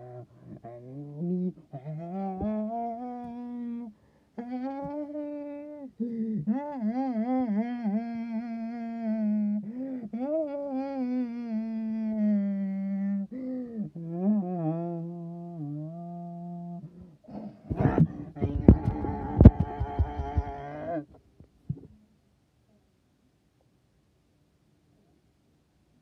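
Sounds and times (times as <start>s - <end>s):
person humming: 0.0s - 21.1s.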